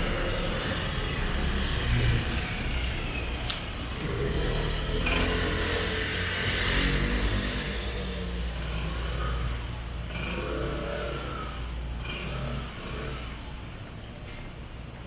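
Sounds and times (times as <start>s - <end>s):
street noise: 0.0s - 15.0s
vehicle engine rumbling: 0.0s - 15.0s.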